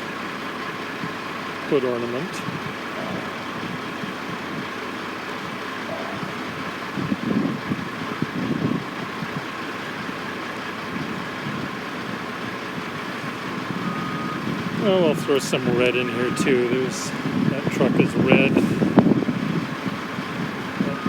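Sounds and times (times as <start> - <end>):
construction machinery drone: 0.0 - 21.0
truck engines idling: 0.0 - 21.0.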